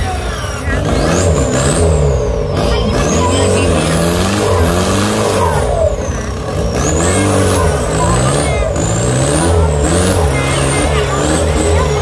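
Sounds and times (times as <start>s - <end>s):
pickup engine revving hard: 0.0s - 12.0s.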